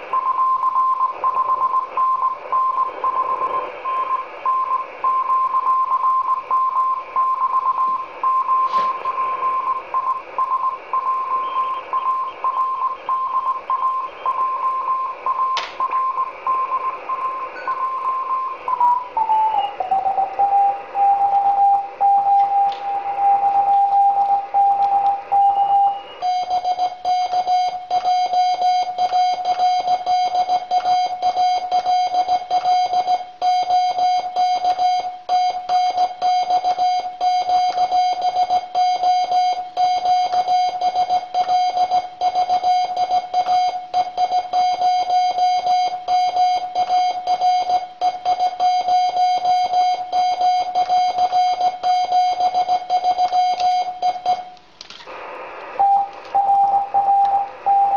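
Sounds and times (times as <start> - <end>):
morse code beeps: 0.0 - 54.6, 55.8 - 57.9.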